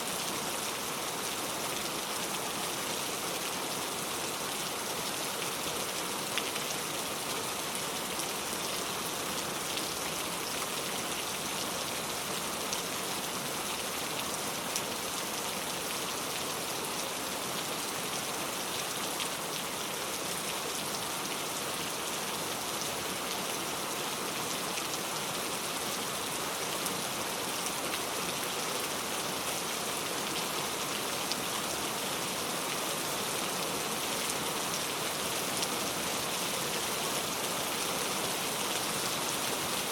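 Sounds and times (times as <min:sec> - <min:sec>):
heavy rain on a road: 0:00.0 - 0:39.9.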